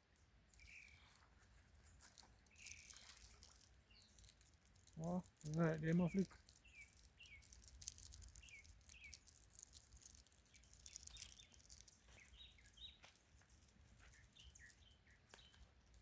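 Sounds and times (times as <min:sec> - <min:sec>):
faint bird chirps: 0:00.2 - 0:09.6, 0:10.2 - 0:15.7.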